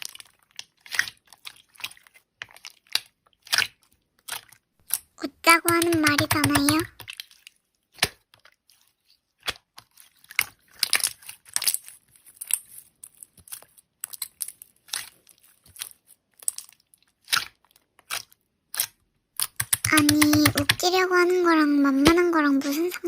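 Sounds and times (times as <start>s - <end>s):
slime squishing crackles: 0.0s - 23.0s.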